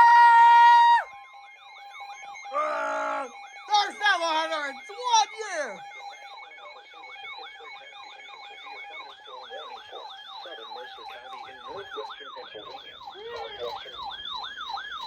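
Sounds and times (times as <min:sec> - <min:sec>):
electronic siren yelping: 0:00.0 - 0:15.0.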